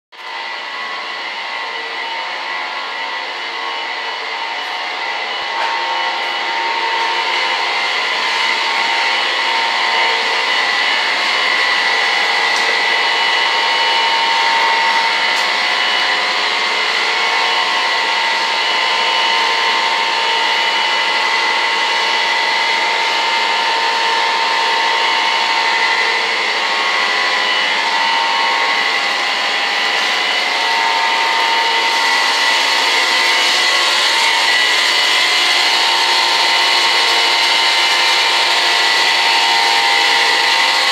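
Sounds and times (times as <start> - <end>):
electric blower whining: 0.2 - 40.9.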